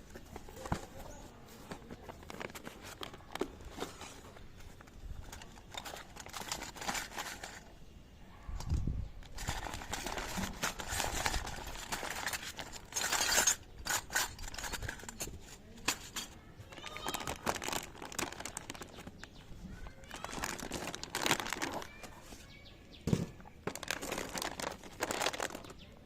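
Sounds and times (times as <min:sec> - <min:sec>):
packaging rustling: 0:00.0 - 0:07.7, 0:09.2 - 0:22.5, 0:23.4 - 0:25.9.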